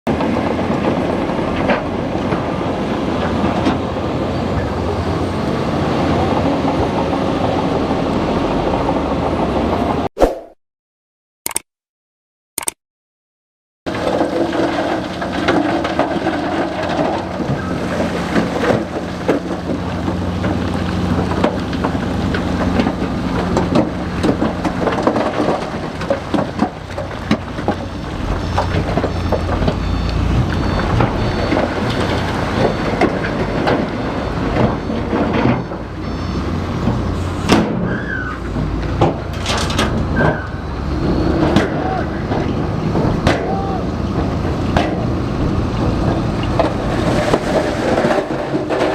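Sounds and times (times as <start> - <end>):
bulldozer engine running: 0.1 - 10.1, 13.9 - 48.9.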